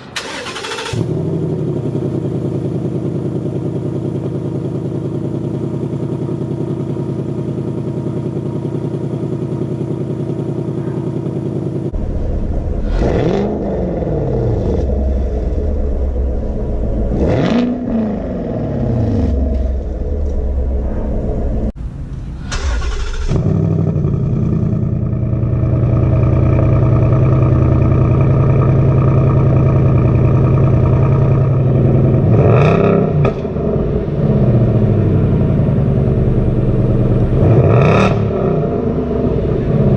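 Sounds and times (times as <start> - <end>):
car exhaust idling and revving: 0.0 - 39.9.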